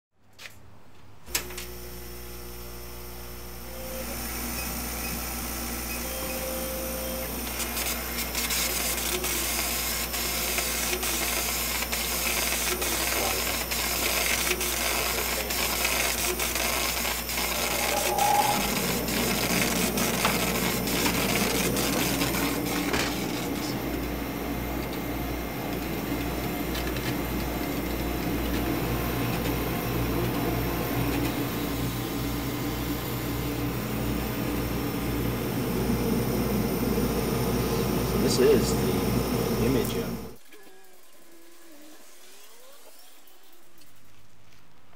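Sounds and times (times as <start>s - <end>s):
laser engraver fan whirring: 1.3s - 40.4s.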